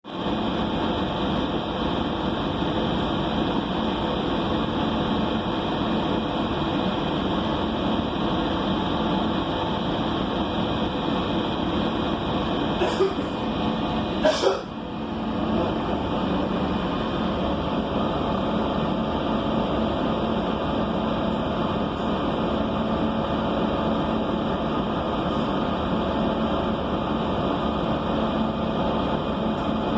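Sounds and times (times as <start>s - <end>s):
bus engine and ventilation drone: 0.0s - 29.9s.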